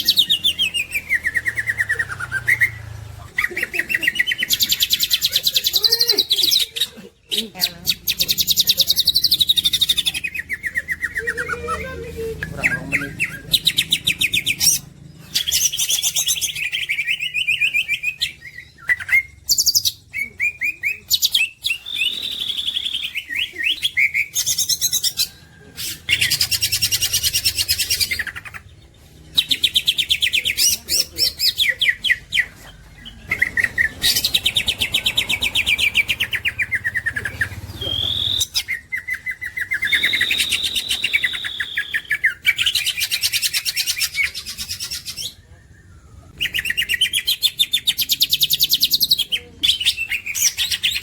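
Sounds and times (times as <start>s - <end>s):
bird chirping trills and whistles: 0.0s - 51.0s.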